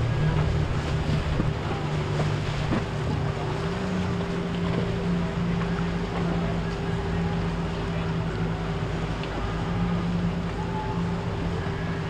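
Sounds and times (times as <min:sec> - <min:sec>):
motorboat engine droning: 0:00.0 - 0:12.0.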